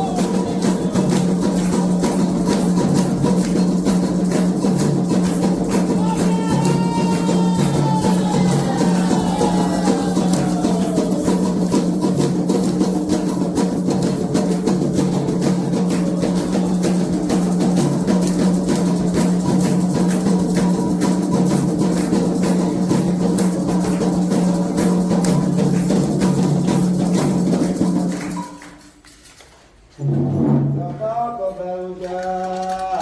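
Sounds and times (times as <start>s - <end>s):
hand drums fast beat: 0.0s - 28.7s.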